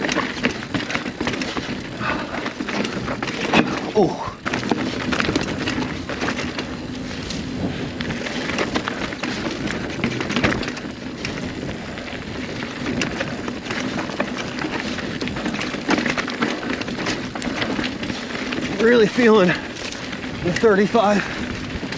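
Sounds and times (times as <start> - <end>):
bike knocking and rattling: 0.0 - 21.9
bike tyres crunching over dirt: 0.0 - 21.9.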